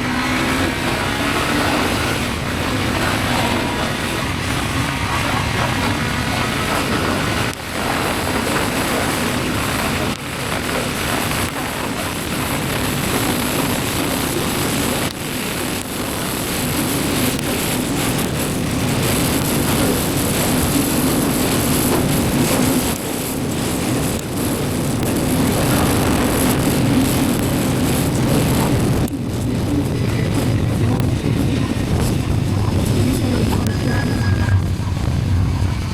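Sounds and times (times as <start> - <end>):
motorcycle engine: 0.0 - 35.9
wind rushing over microphone: 0.0 - 35.9.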